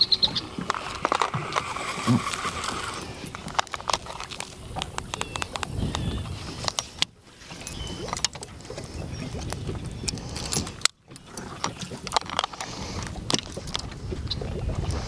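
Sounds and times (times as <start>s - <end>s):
wind rumbling on microphone: 0.0s - 15.0s
gear clicks and knocks: 0.6s - 12.7s.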